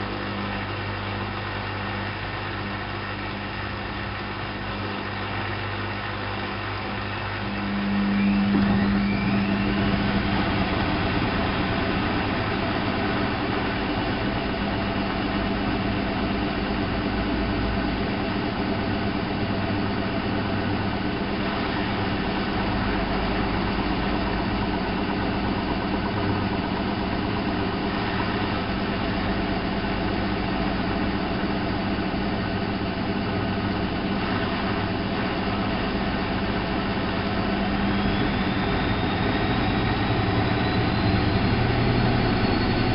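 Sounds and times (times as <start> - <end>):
washing machine drone: 0.0 - 42.9
strong low hum: 4.1 - 42.9
rising whine: 4.4 - 42.9.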